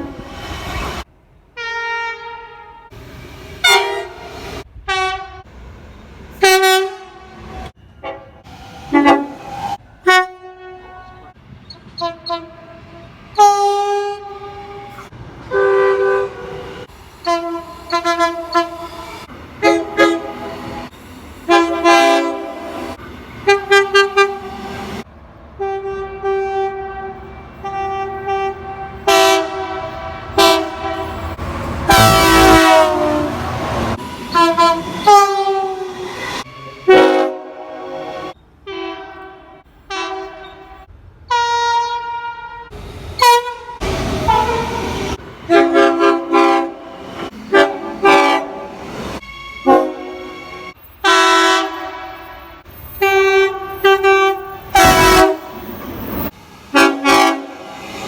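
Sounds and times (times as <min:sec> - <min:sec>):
train air horn blasts: 0:01.6 - 0:03.0, 0:03.6 - 0:05.5, 0:06.4 - 0:11.4, 0:12.0 - 0:20.9, 0:21.5 - 0:25.0, 0:25.6 - 0:55.8, 0:56.7 - 0:58.0.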